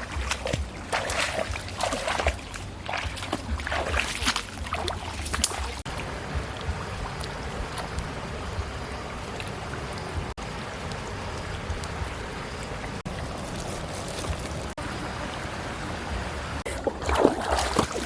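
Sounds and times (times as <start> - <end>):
rushing water: 0.0 - 18.0
water splashing and sloshing: 0.0 - 18.0
wind noise: 0.0 - 18.0.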